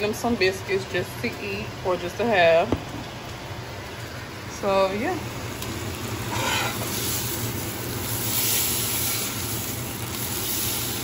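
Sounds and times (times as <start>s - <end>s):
hot dogs sizzling in pan: 0.0s - 11.0s.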